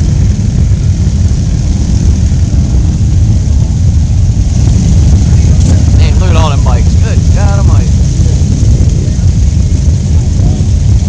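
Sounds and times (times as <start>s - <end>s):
motorcycle rumble: 0.0s - 11.0s
wind buffeting microphone: 0.0s - 11.0s.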